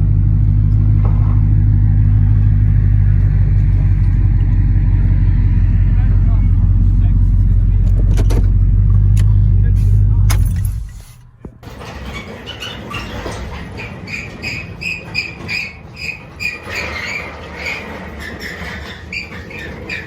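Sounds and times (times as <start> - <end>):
truck engine shutting off: 0.0 - 18.3.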